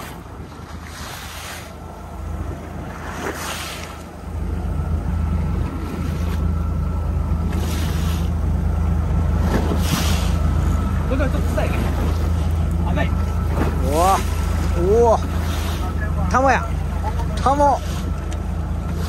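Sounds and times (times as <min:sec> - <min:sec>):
boat engine humming: 0:00.0 - 0:19.0
waves washing: 0:00.0 - 0:19.0
wind: 0:00.0 - 0:19.0.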